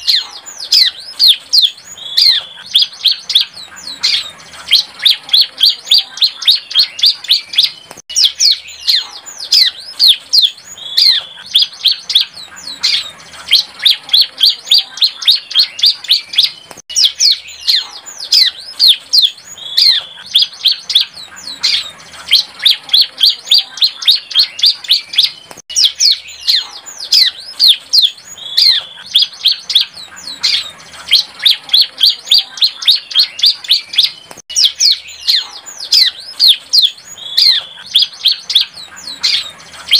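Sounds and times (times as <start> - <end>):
bird song high chirps: 0.0 - 39.9.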